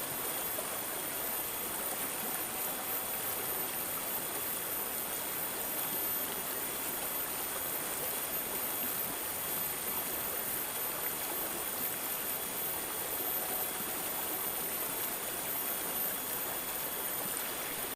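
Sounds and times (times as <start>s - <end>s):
water babbling and trickling: 0.0s - 17.9s.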